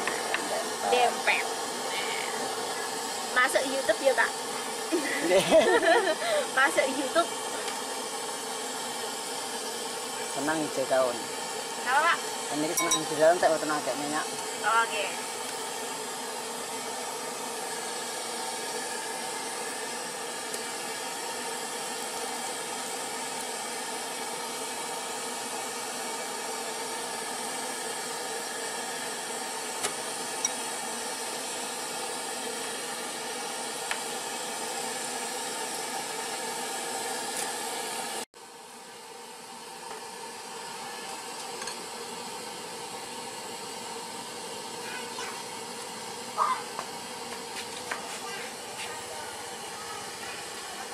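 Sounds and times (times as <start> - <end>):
boiling pot hissing: 0.0 - 50.9.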